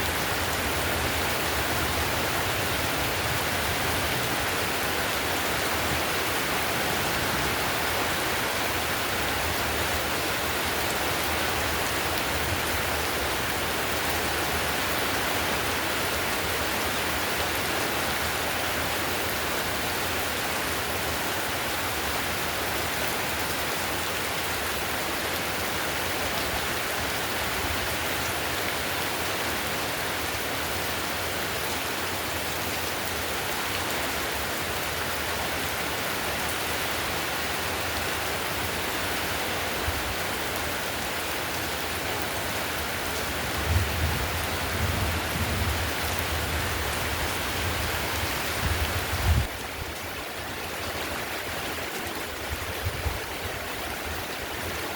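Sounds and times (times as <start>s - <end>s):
heavy rain on roof tiles: 0.0s - 54.9s.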